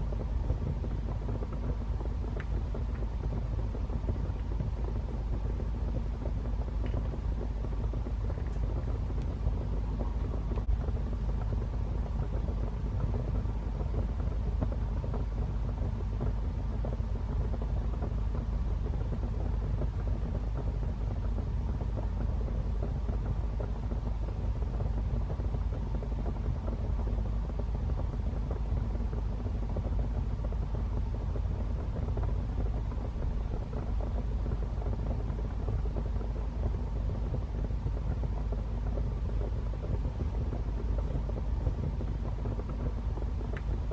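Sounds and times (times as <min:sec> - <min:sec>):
fire crackles: 0:00.0 - 0:43.9
fire rumbling in fireplace: 0:00.0 - 0:43.9.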